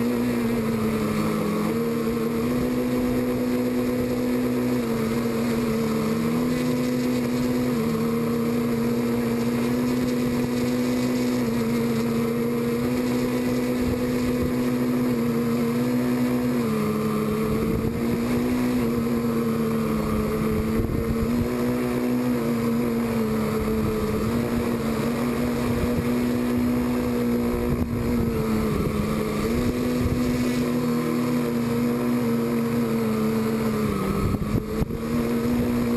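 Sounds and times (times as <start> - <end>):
drone propellers buzzing: 0.0 - 35.9.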